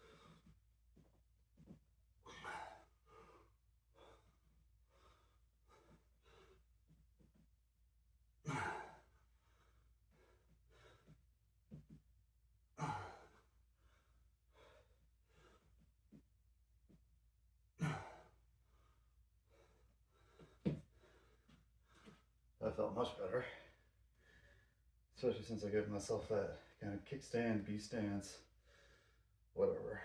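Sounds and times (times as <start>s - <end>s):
quiet breaths: 0.0s - 7.5s, 8.8s - 12.0s, 12.9s - 16.3s, 17.9s - 30.0s.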